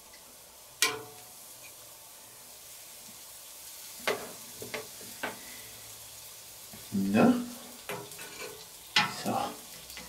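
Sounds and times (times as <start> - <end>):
sausages sizzling on a grill: 0.0 - 10.0.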